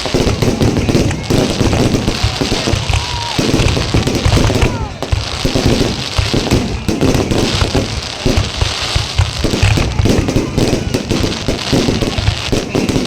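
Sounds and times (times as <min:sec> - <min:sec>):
fireworks booming and crackling: 0:00.0 - 0:13.0.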